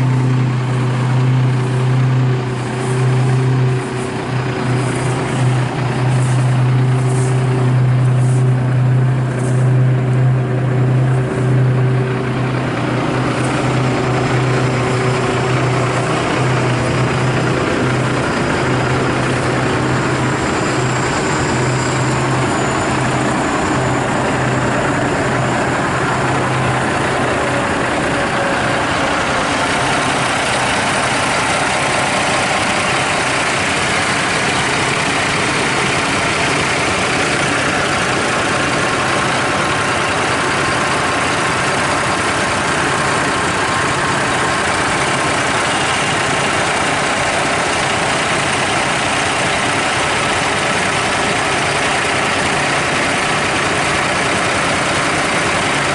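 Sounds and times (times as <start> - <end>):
diesel truck engine idling: 0.0 - 55.9.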